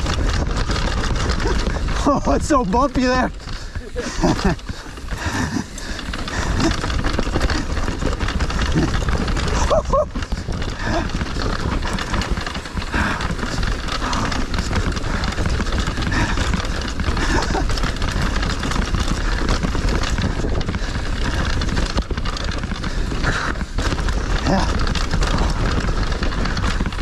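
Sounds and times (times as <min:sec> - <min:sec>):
mountain bike rattling over trail: 0:00.0 - 0:27.0
wind rumbling on microphone: 0:00.0 - 0:27.0.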